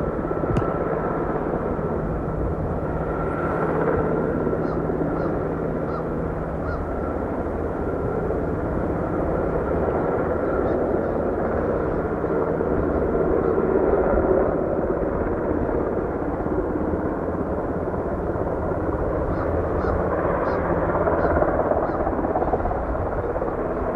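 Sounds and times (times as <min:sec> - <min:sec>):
aircraft engines running: 0:00.0 - 0:23.9.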